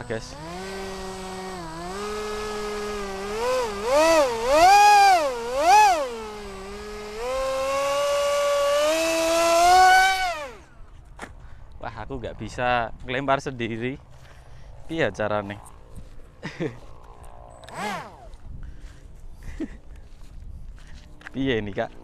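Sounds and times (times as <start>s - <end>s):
electric motor and propeller whining: 0.0s - 11.8s, 14.1s - 22.0s.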